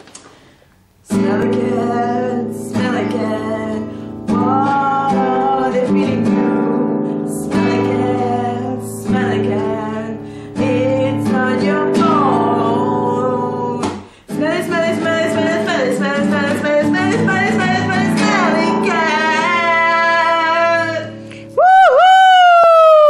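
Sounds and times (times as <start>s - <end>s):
acoustic guitar strumming: 1.1s - 21.6s
person singing: 1.1s - 23.0s.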